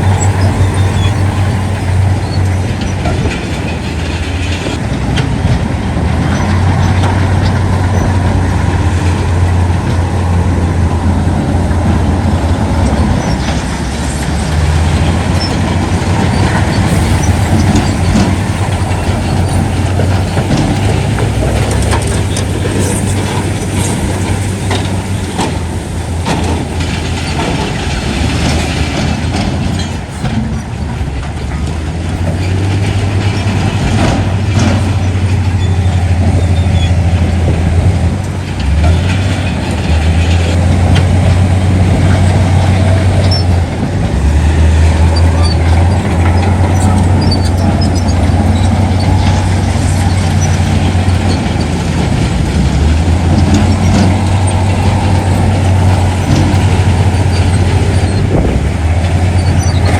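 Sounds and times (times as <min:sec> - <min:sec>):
clanks and knocks: 0:00.0 - 0:59.9
diesel machinery engine drone: 0:00.0 - 0:59.9.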